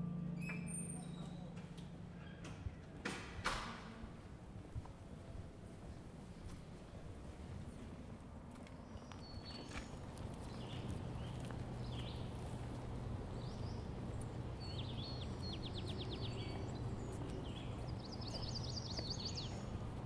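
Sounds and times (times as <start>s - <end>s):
distant city hum: 0.0s - 20.0s.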